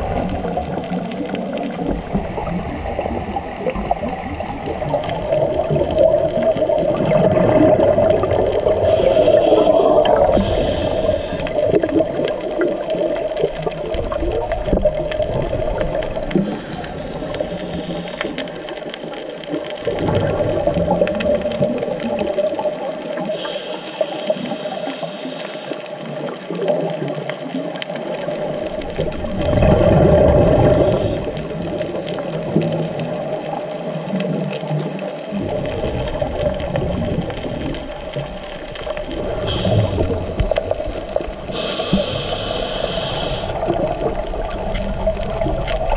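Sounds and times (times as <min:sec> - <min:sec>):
diver's exhaled bubbles rumbling: 0:00.0 - 0:23.5, 0:26.0 - 0:45.9
muffled underwater hum: 0:00.0 - 0:27.2, 0:27.8 - 0:33.8, 0:34.6 - 0:45.9.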